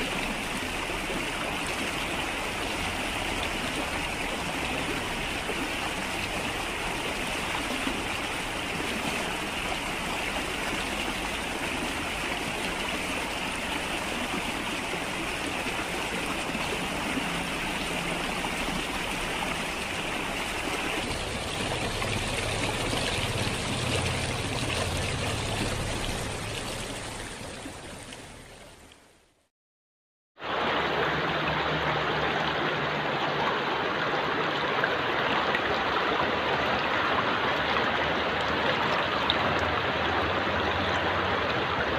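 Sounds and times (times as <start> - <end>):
stream rushing over rocks: 0.0 - 29.0, 30.4 - 41.9.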